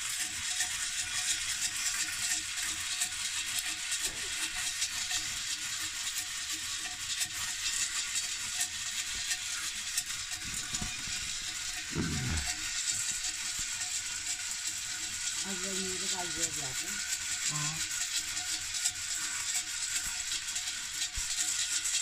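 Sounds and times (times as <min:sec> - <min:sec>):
kernels sizzling and popping: 0:00.0 - 0:22.0.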